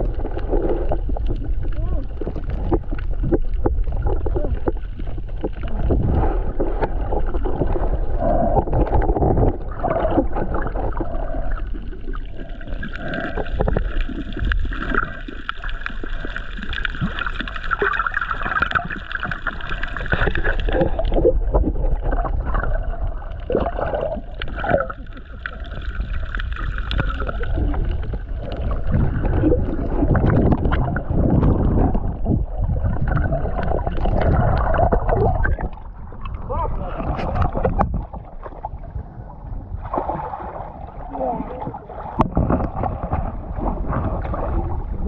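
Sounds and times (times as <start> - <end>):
underwater gurgling and clicks: 0.0 - 45.0
underwater rumble of moving water: 0.0 - 45.0.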